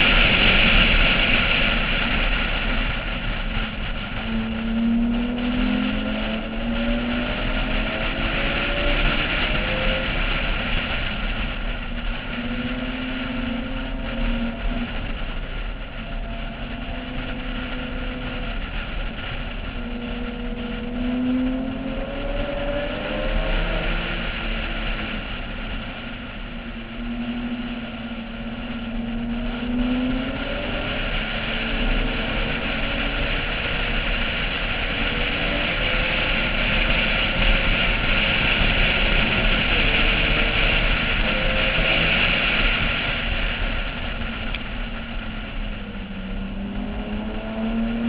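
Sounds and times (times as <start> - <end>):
car engine accelerating: 0.0 - 48.0
wind rushing: 0.0 - 48.0.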